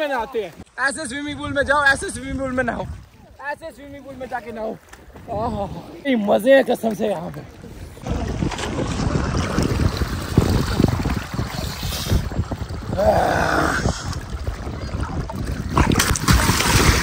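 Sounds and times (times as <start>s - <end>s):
wind buffeting microphone: 0.9s - 6.0s, 7.5s - 17.0s
water sloshing and splashing: 1.8s - 17.0s.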